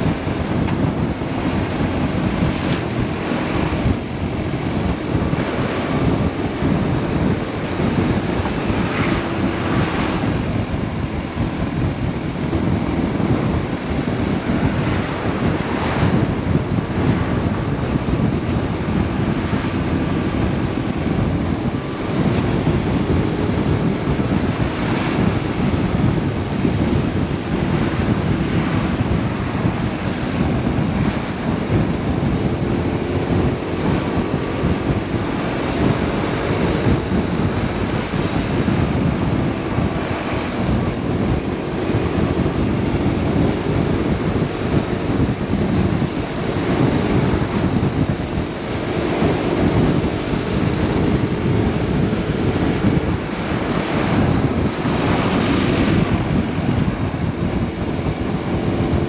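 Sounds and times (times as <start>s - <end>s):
motorcycle engine droning: 0.0s - 59.0s
wind buffeting microphone: 0.0s - 59.0s.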